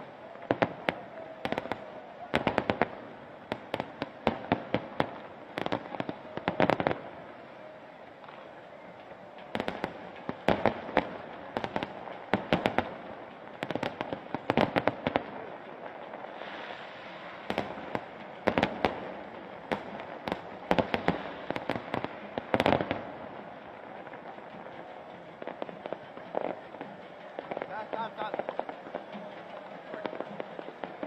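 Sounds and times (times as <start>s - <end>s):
fireworks bangs and crackling pops: 0.0s - 31.0s.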